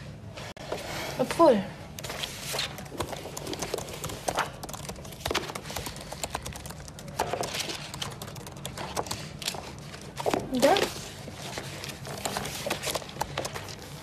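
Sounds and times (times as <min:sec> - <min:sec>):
typing on laptop keyboard: 0:02.4 - 0:14.0.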